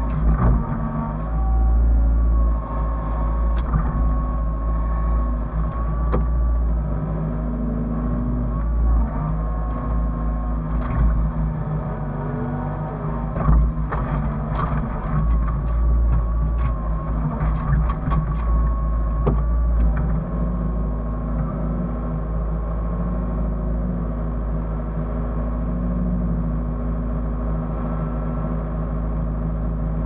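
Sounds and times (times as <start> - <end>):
diesel engine running: 0.0 - 30.0
held whine: 0.0 - 30.0.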